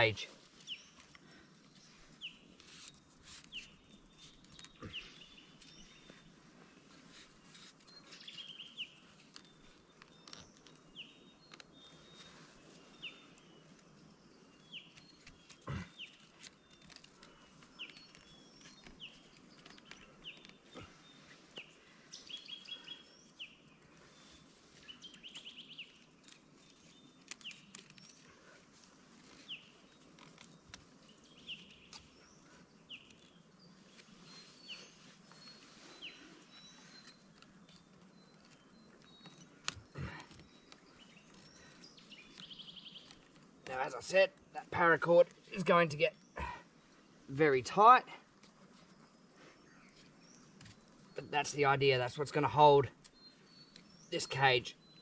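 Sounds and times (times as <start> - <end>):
birds chirping: 0.0 - 55.0
dry twigs clicking and knocking: 0.4 - 6.3, 6.9 - 46.4, 48.2 - 49.2, 49.8 - 51.6, 52.8 - 55.0.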